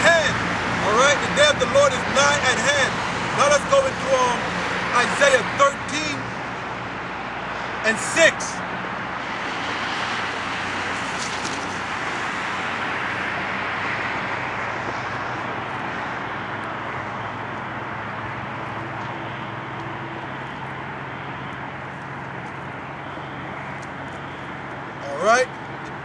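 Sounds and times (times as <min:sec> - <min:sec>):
road traffic rush: 0:00.0 - 0:26.0.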